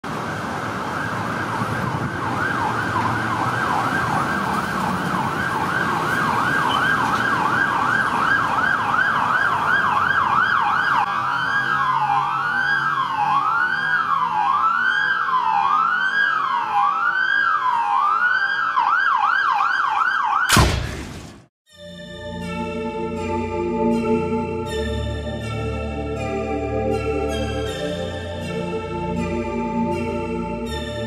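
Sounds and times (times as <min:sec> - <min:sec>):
emergency vehicle siren: 0:00.0 - 0:20.6, 0:22.1 - 0:31.0.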